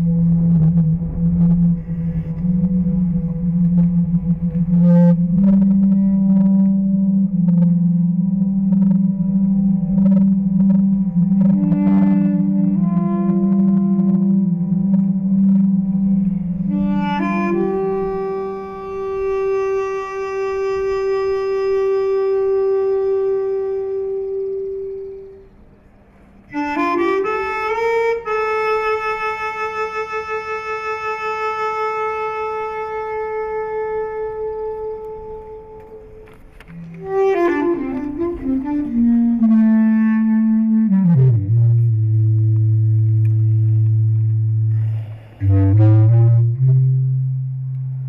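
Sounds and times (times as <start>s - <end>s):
bass clarinet playing sustained notes: 0.0s - 48.0s.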